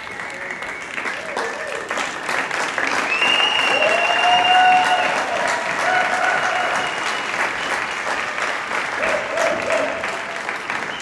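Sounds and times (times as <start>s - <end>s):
audience applauding: 0.0s - 11.0s
crowd cheering: 0.0s - 11.0s.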